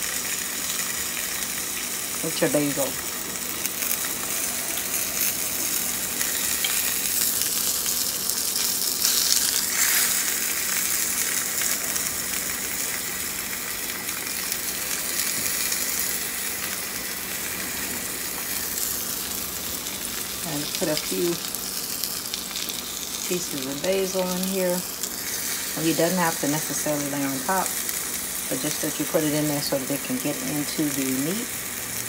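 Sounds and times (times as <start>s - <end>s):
fish sizzling in a pan: 0.0s - 32.0s.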